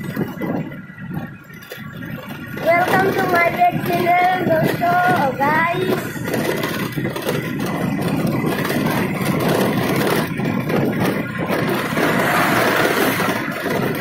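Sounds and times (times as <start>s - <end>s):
motorbike engine running: 0.0s - 14.0s
wind and road noise: 0.0s - 14.0s.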